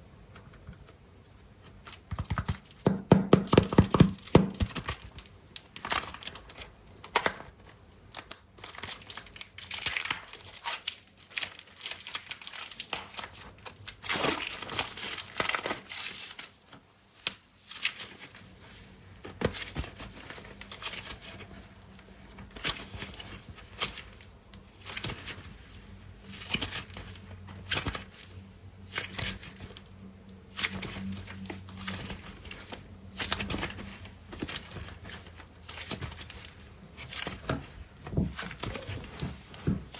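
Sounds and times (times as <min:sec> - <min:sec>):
packaging crinkling and tearing: 0:03.5 - 0:39.9.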